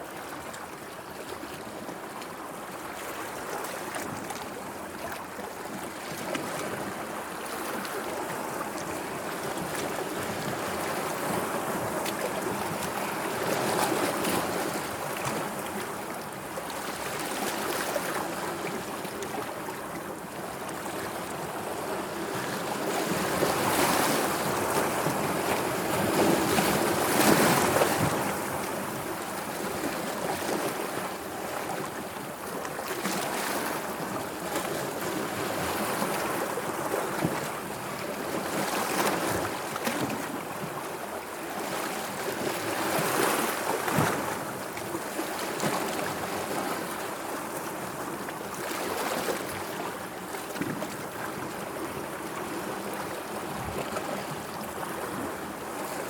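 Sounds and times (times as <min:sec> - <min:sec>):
sea waves washing and lapping: 0:00.0 - 0:56.0.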